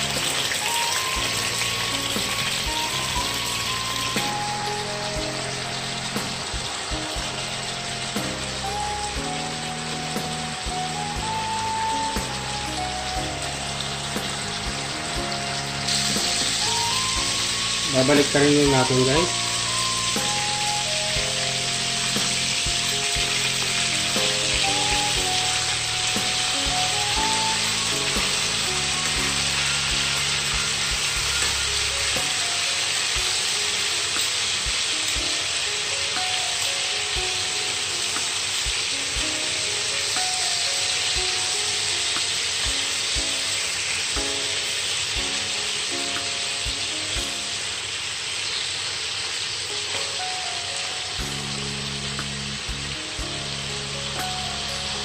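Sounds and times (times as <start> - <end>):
background music with melody: 0.0 - 55.0
chicken sizzling in oil: 0.0 - 55.0.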